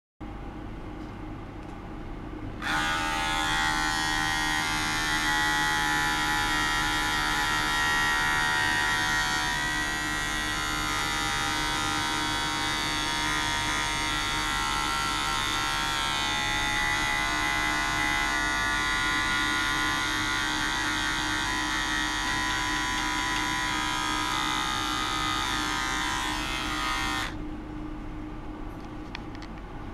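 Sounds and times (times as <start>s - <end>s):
electric shaver buzzing: 2.6s - 27.4s.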